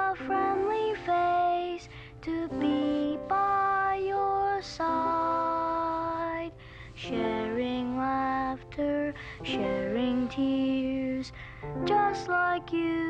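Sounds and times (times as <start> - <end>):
boy singing: 0.0 - 13.0
soft instrumental accompaniment: 0.0 - 13.0.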